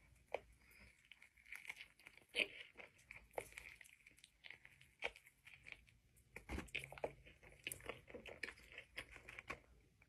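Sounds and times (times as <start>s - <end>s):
biting and chewing food: 0.0s - 10.0s.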